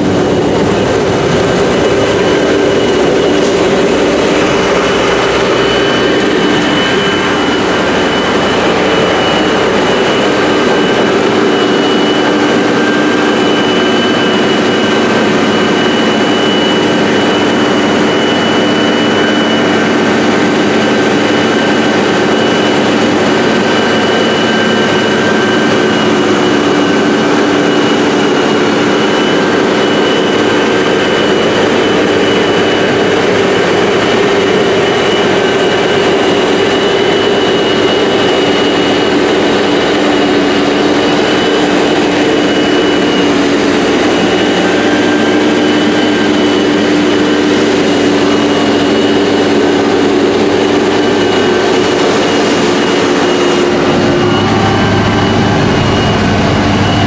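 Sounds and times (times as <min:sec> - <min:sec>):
harvester engine droning: 0:00.0 - 0:57.0
high even whine: 0:00.0 - 0:57.0.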